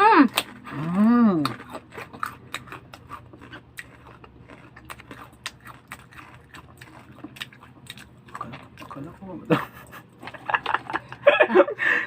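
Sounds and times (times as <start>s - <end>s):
crunching and chewing crispy food: 0.0s - 11.2s.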